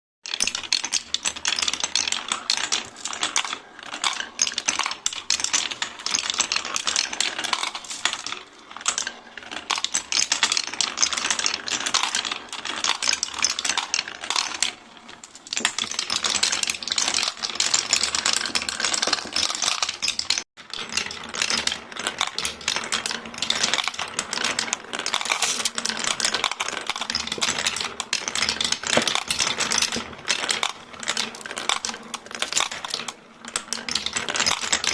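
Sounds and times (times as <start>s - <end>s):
marbles rolling and clicking: 0.2s - 34.9s.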